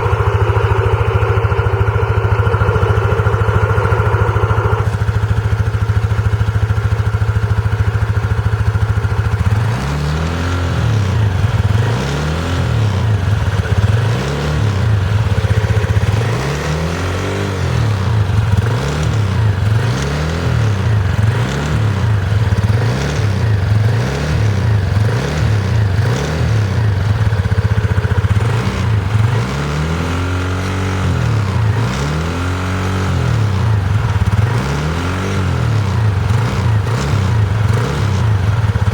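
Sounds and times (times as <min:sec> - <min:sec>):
scooter engine revving: 0:00.0 - 0:38.9.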